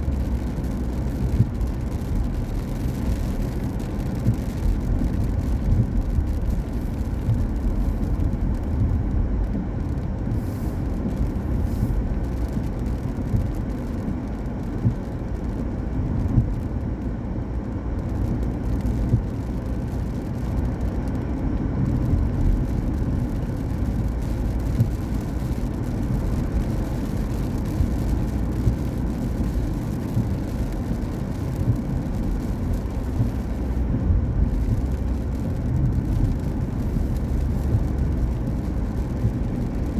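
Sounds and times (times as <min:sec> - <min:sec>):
tyre noise on wet road: 0:00.0 - 0:39.9.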